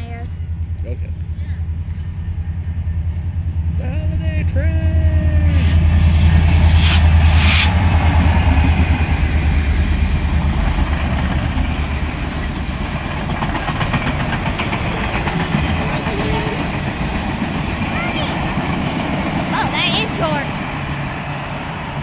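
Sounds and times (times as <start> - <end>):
diesel locomotive engine rumble: 0.0 - 22.0
train cars rolling over rails: 1.7 - 22.0.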